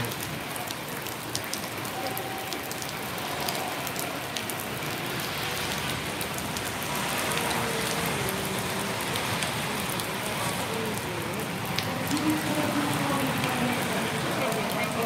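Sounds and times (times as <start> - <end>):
raindrops ticking close by: 0.0 - 15.0
steady rain falling: 0.0 - 15.0.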